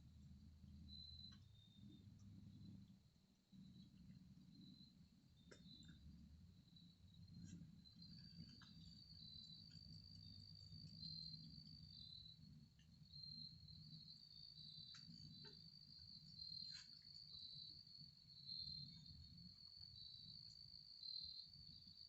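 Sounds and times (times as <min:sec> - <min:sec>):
low background rumble: 0:00.0 - 0:20.8.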